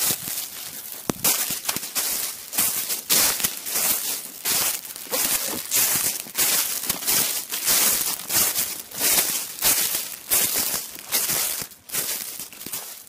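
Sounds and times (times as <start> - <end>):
footsteps through dry leaves: 0.0 - 13.0.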